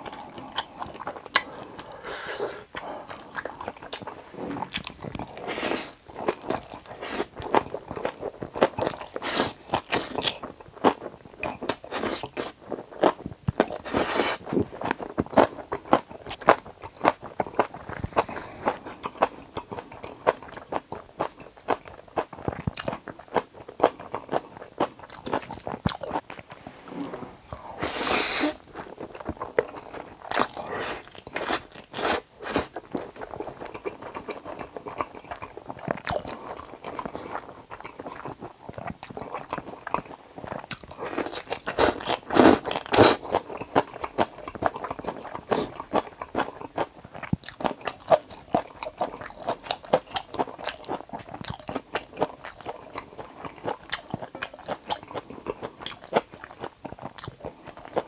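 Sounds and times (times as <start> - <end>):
chewing and biting noodles: 0.0 - 26.6, 27.5 - 58.0.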